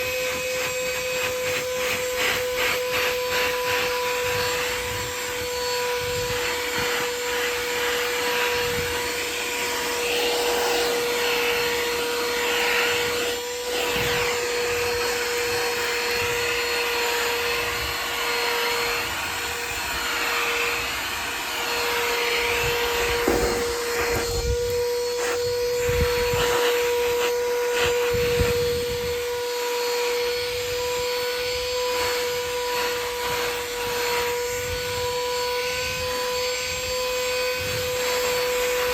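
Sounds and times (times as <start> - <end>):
handheld vacuum running: 0.0 - 38.9.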